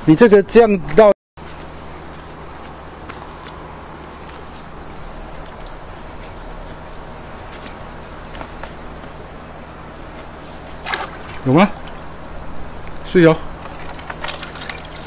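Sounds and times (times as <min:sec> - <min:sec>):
crickets chirping: 0:01.4 - 0:15.0.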